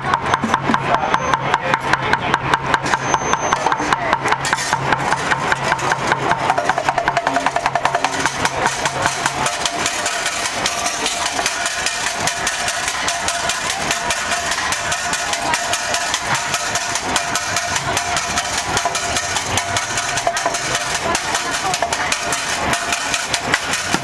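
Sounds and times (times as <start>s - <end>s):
bucket drumming with sticks: 0.0s - 24.0s.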